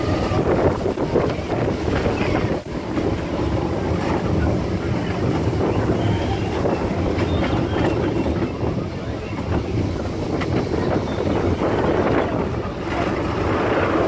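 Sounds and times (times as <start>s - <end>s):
roller coaster rumbling on track: 0.0s - 14.0s
wind buffeting microphone: 0.0s - 14.0s.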